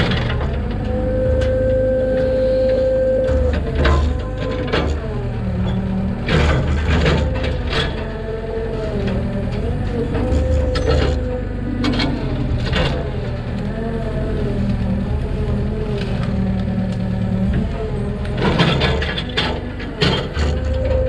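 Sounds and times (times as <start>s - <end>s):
diesel engine running under load: 0.0s - 21.0s
hydraulic whine: 0.0s - 21.0s.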